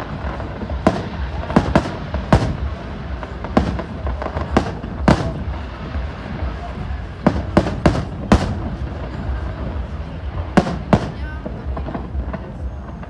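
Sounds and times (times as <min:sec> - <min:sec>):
firework bangs: 0:00.0 - 0:13.0
fireworks rumble and crackle: 0:00.0 - 0:13.0.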